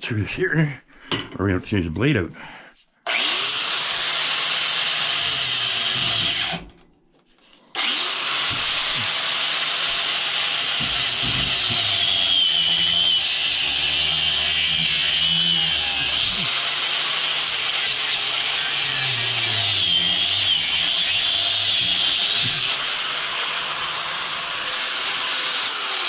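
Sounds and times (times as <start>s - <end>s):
power saw cutting: 3.1s - 6.7s, 7.8s - 26.0s.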